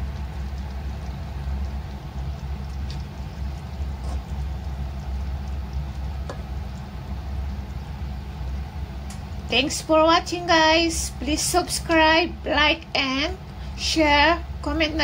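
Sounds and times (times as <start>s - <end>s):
food simmering in a wok: 0.0s - 15.0s
steady low hum: 0.0s - 15.0s.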